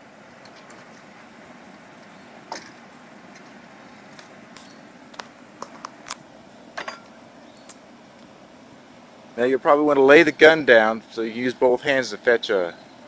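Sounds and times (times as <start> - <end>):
faint background hum: 0.0 - 13.0.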